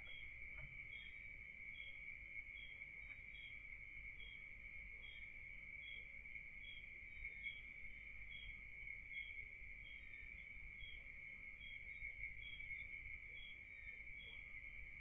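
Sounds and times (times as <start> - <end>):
crickets trilling and chirping: 0.0 - 15.0.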